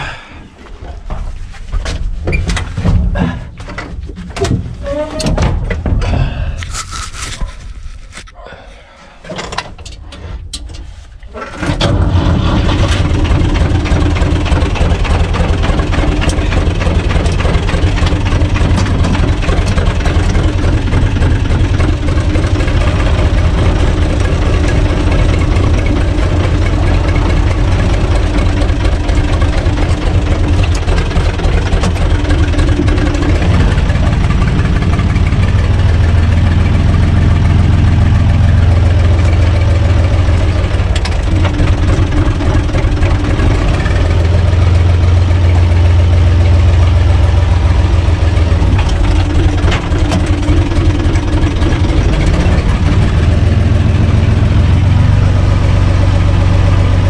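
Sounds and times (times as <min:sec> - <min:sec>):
tractor engine cranking: 0:09.2 - 0:57.0
tractor diesel engine idling: 0:10.8 - 0:57.0.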